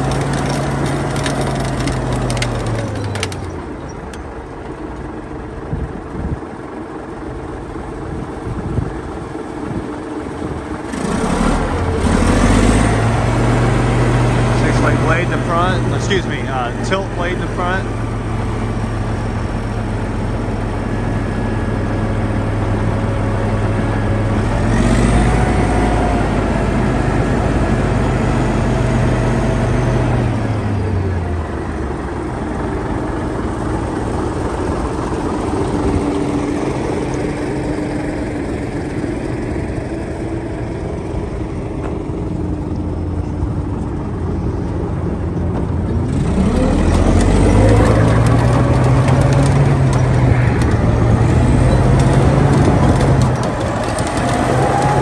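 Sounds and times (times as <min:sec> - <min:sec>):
bulldozer diesel engine revving: 0:00.0 - 0:03.8, 0:07.5 - 0:55.0.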